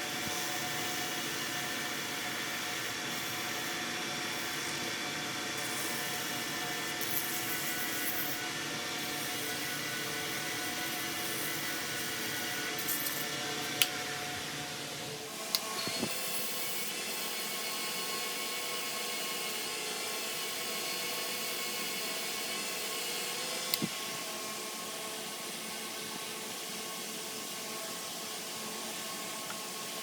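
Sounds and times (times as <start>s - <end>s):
small electric motor whining: 0.0s - 25.4s.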